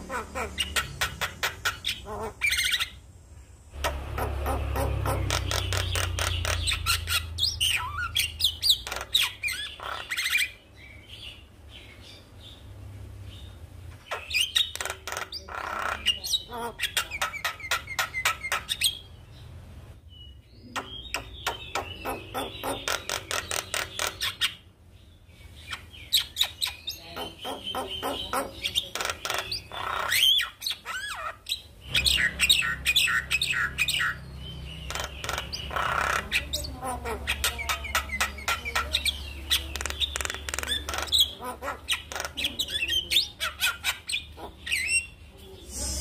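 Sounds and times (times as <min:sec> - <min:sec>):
bird harsh chattering song: 0:00.0 - 0:03.0, 0:03.8 - 0:12.7, 0:13.4 - 0:19.5, 0:20.2 - 0:24.7, 0:25.4 - 0:46.0.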